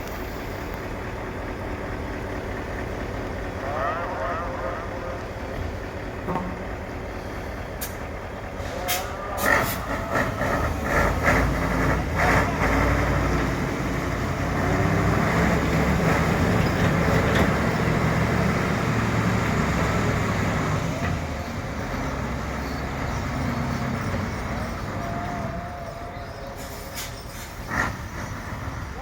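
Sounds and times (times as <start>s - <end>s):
diesel truck engine under load: 0.0s - 29.0s.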